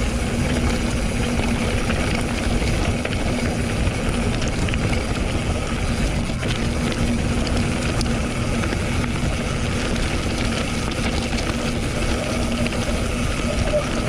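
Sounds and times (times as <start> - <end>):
low rumble and wind noise: 0.0 - 14.0
small clicks and rattles: 0.4 - 14.0.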